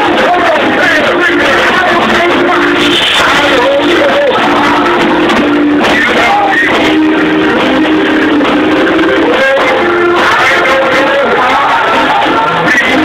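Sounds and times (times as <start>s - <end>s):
man singing: 0.0s - 13.0s
organ chords: 0.0s - 13.0s.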